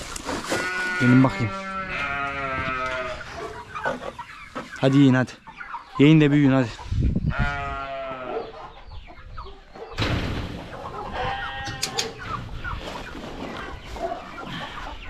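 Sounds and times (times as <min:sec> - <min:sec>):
young chickens clucking: 0:00.0 - 0:15.0.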